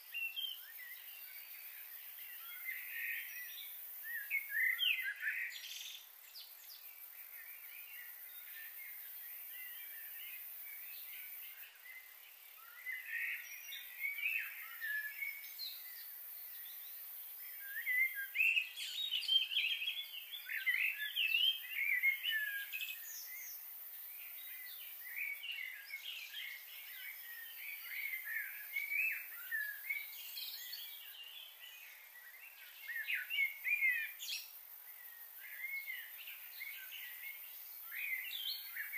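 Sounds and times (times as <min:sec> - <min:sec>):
faint steady hiss: 0:00.0 - 0:38.9
small birds chirping: 0:00.0 - 0:38.9.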